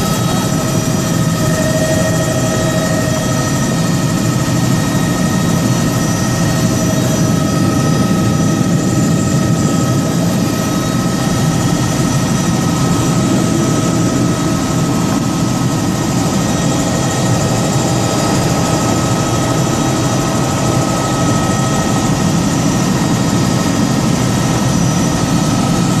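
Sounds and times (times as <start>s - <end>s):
helicopter turbine and rotor: 0.0s - 26.0s.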